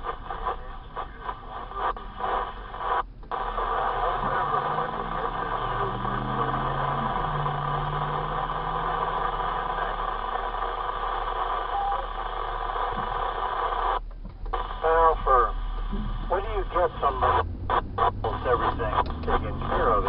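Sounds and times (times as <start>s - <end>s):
car engine: 0.0s - 13.3s, 14.0s - 20.0s
road noise inside car: 0.0s - 20.0s
two-way radio hiss: 0.0s - 20.0s.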